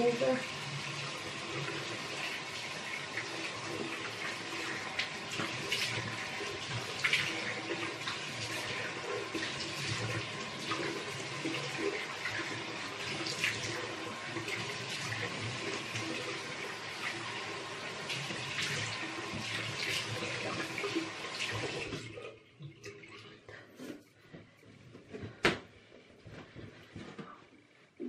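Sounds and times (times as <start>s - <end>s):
tap water running into sink: 0.0s - 23.4s.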